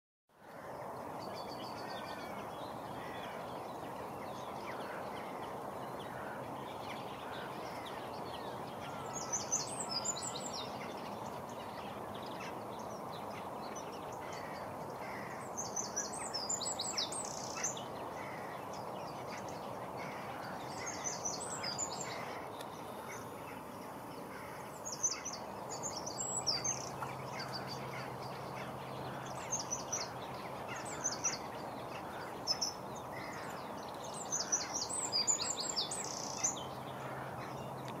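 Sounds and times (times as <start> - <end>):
songbirds chirping: 0.3 - 38.0
steady background noise: 0.5 - 38.0.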